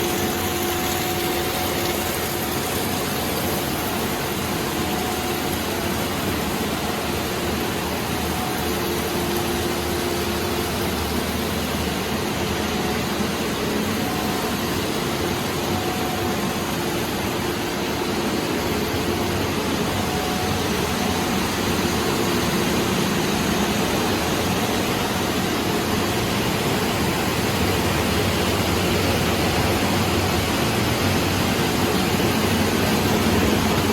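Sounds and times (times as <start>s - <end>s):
production line machinery humming: 0.0s - 33.9s.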